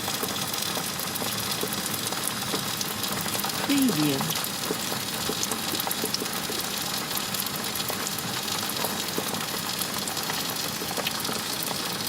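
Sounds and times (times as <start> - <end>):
oil crackles and pops: 0.0 - 12.0.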